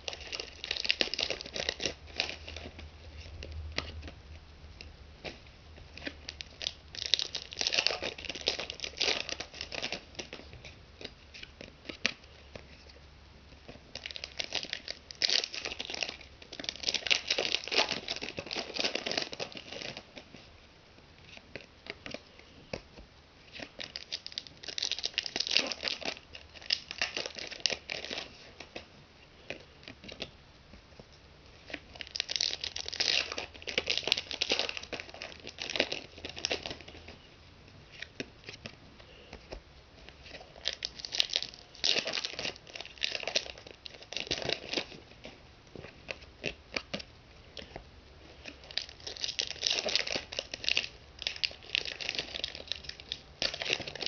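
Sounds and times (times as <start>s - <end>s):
foil packets crinkling and tearing: 0.0s - 4.0s, 5.9s - 12.3s, 13.7s - 20.5s, 23.5s - 30.3s, 31.6s - 37.2s, 40.2s - 54.0s.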